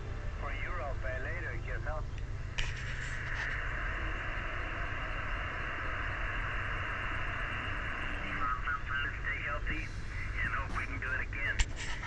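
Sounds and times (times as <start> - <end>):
radio static hiss: 0.4 - 12.0.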